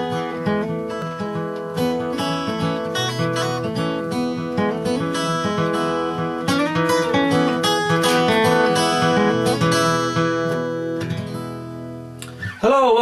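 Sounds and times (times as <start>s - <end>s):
fingerpicked acoustic guitar: 0.0s - 12.7s.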